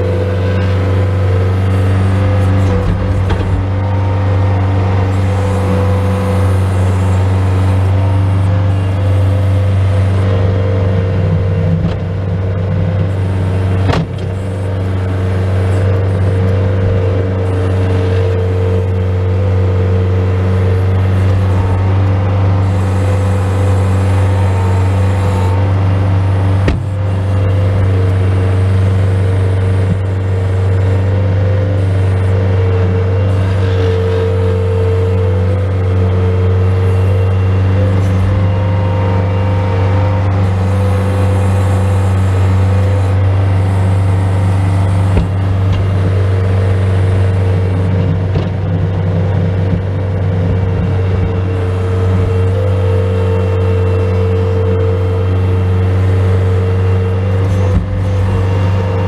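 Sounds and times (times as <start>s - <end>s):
loader diesel engine running: 0.0s - 59.0s.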